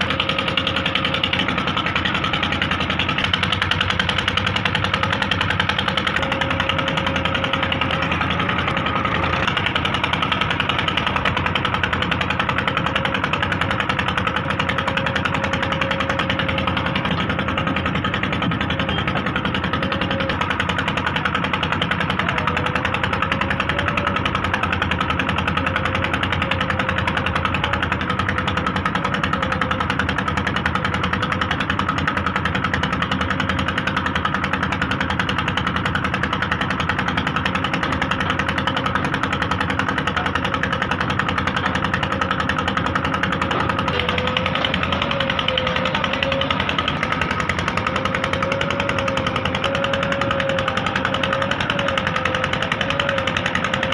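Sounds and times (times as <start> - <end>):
diesel engine clattering: 0.0 - 53.9.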